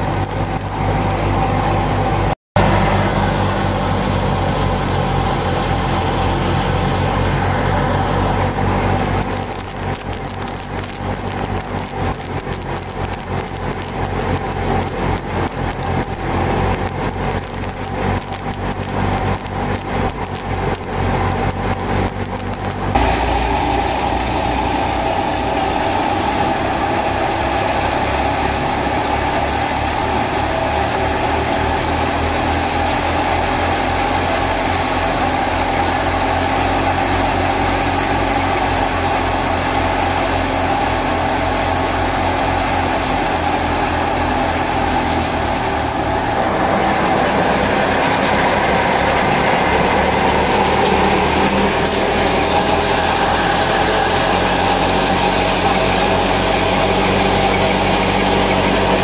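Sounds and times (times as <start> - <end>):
machine drone with hum: 0.0 - 59.0
thresher crackling and rattling: 0.0 - 59.0
tractor diesel engine running: 0.0 - 59.0.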